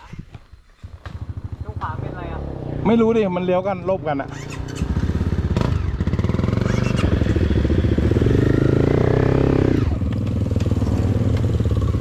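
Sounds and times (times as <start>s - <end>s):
motorcycle engine revving: 0.7s - 12.0s.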